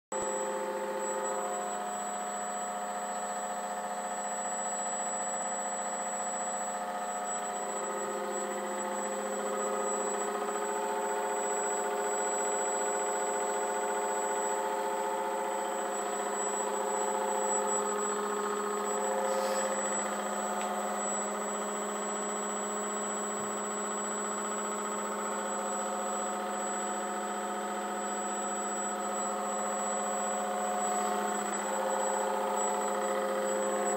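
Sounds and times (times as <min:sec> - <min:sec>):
model plane motor and propeller whine: 0:00.2 - 0:33.9.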